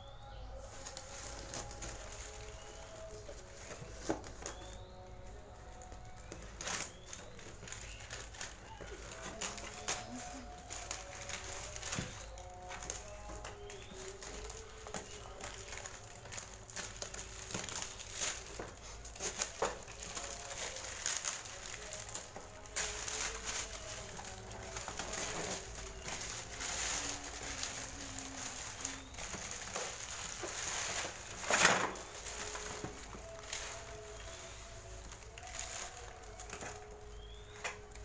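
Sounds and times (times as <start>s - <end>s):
plastic wrap crinkling: 0.3s - 38.0s.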